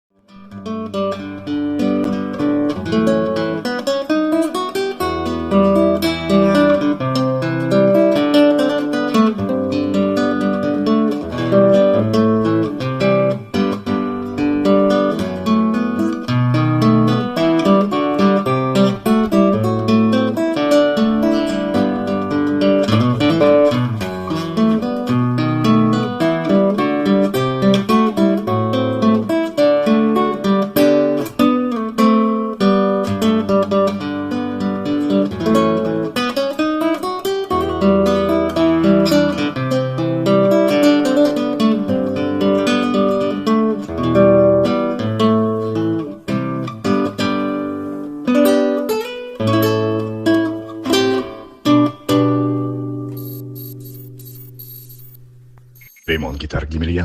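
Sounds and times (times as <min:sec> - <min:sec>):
fingerstyle acoustic guitar: 0:00.3 - 0:56.2.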